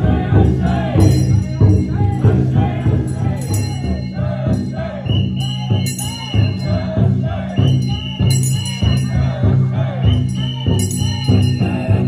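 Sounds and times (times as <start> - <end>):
group of voices chanting: 0.0 - 12.0
taiko drum beating: 0.0 - 12.0.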